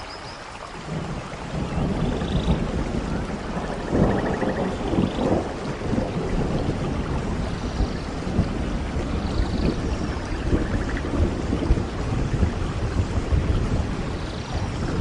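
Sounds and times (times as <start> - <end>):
steady rain: 0.0 - 15.0
low rumbling thunder: 0.9 - 15.0.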